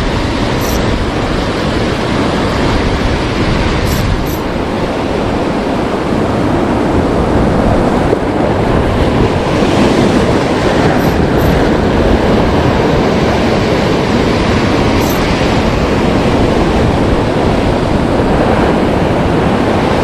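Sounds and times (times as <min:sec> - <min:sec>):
heavy surf breaking on shore: 0:00.0 - 0:20.0.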